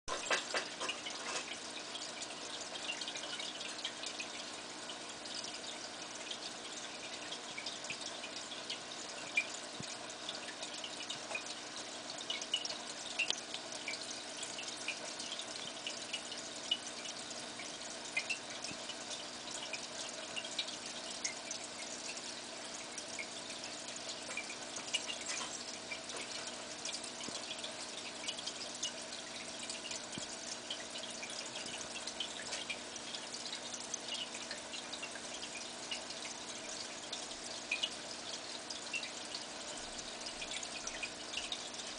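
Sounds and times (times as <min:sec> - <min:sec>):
small drips and pops: 0:00.1 - 0:41.9
water trickling and bubbling: 0:00.1 - 0:41.9.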